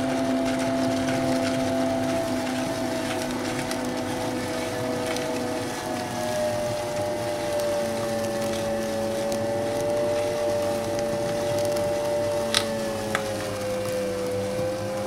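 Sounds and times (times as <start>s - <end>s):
meat grinder motor whine: 0.0s - 15.0s
cookies crunching: 0.5s - 15.0s.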